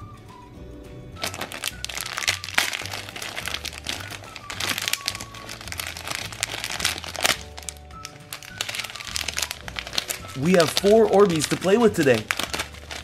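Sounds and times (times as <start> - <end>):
background music: 0.0 - 13.0
plastic packaging crinkling: 1.2 - 13.0.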